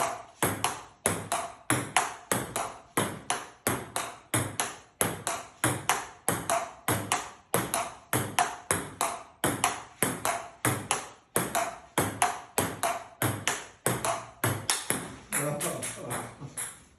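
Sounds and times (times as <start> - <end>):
table tennis ball hits: 0.0 - 16.9.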